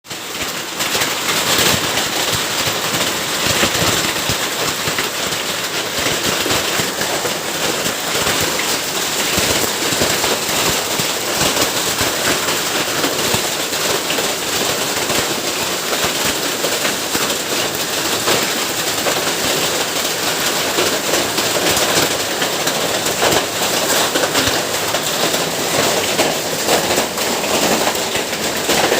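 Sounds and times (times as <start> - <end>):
hail and heavy rain pelting: 0.1 - 28.9.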